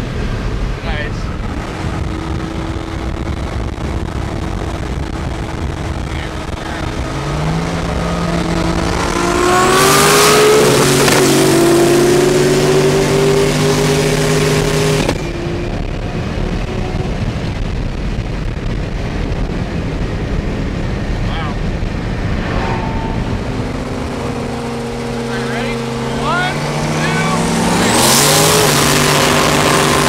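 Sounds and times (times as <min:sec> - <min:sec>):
engine accelerating at full throttle: 0:00.0 - 0:30.0
road and wind noise: 0:00.0 - 0:30.0.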